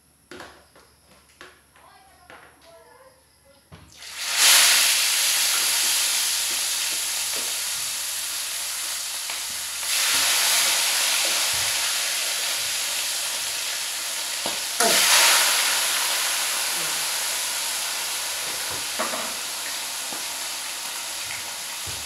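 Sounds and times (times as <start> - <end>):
food sizzling in frying pan: 3.9 - 22.0.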